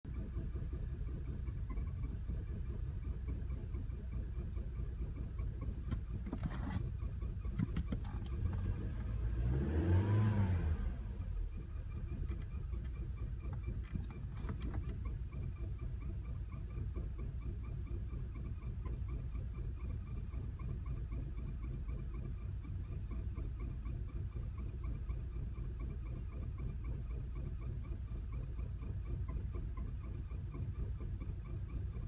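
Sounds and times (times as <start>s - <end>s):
car engine idling rough: 0.0s - 32.0s.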